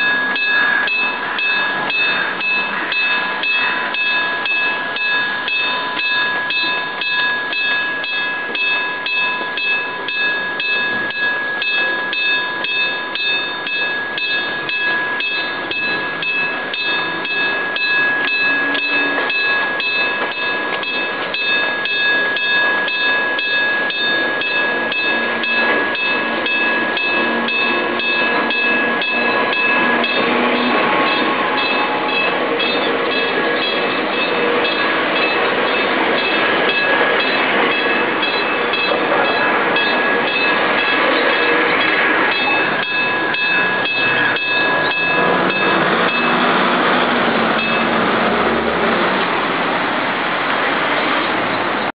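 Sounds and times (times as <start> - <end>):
level crossing bell ringing: 0.0 - 48.1
approaching train: 0.0 - 51.9.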